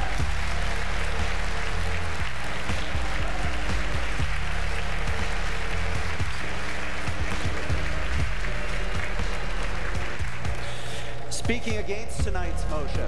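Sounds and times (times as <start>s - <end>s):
audience applause: 0.0s - 11.3s
music with held low notes: 0.0s - 13.0s.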